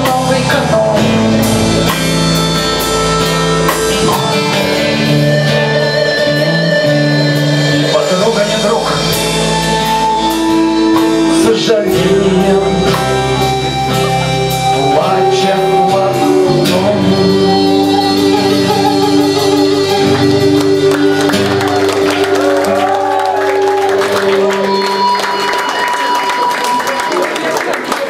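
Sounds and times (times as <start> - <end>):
drums: 0.0 - 27.2
person singing: 0.0 - 27.2
violin long notes: 0.0 - 27.6.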